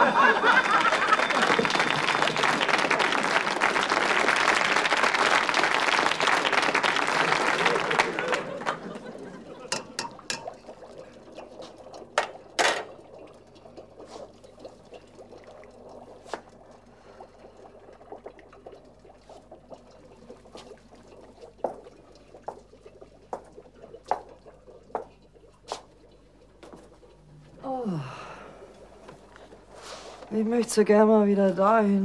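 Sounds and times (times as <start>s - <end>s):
pot of water bubbling: 0.0s - 32.0s.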